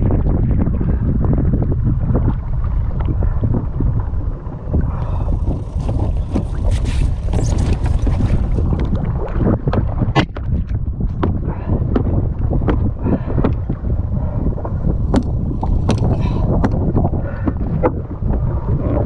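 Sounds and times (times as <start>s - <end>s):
water splashing against boat: 0.0s - 19.0s
wind buffeting microphone: 0.0s - 19.0s.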